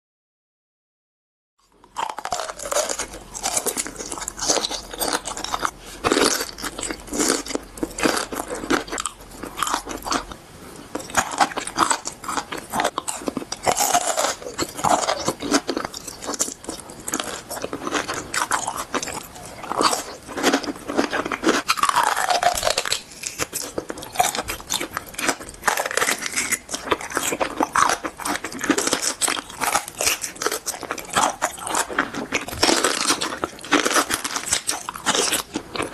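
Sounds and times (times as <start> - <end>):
crisp food crunching: 1.6 - 35.9.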